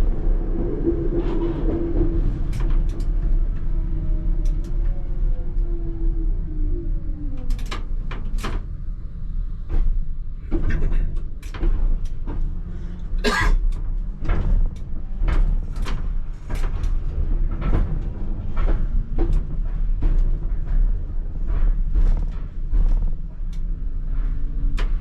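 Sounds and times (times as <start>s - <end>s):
tram rumbling: 0.0s - 25.0s.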